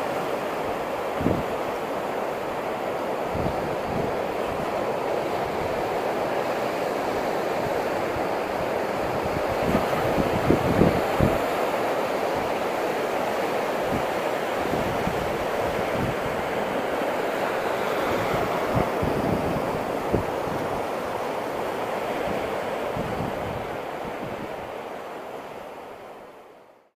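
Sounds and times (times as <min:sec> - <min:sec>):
sea surf breaking: 0:00.0 - 0:26.7
wind buffeting microphone: 0:00.7 - 0:02.0, 0:03.1 - 0:25.1.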